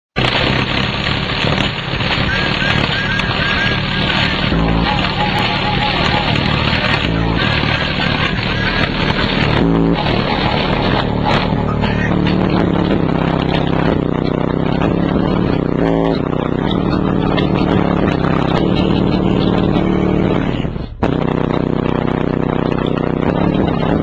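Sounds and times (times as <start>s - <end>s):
subwoofer playing bass-heavy music: 0.2s - 24.0s.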